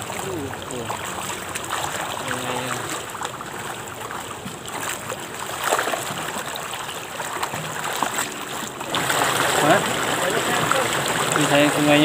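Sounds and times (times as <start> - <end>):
stream water rushing: 0.0 - 12.0
water splashes from washing: 0.0 - 12.0.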